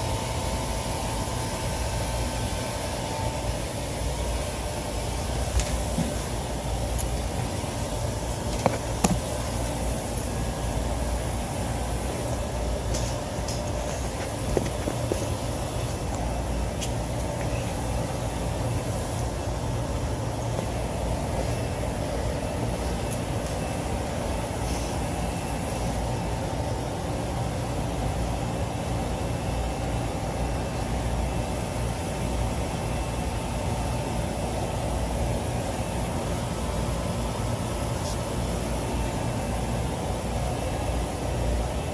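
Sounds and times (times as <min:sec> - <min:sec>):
hvac unit humming: 0:00.0 - 0:41.9.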